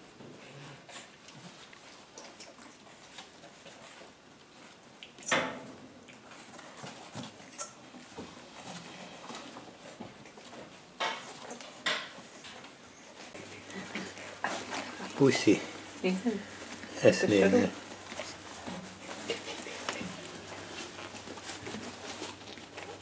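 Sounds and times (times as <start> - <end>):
puppies pattering on hard floor: 0.0 - 23.0.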